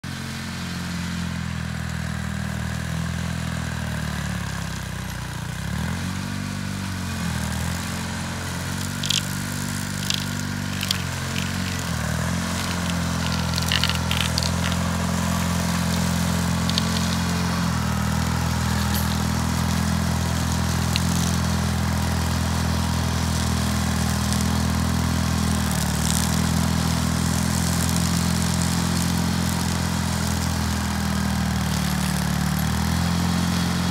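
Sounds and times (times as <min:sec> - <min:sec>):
dozer engine running: 0:00.0 - 0:33.9.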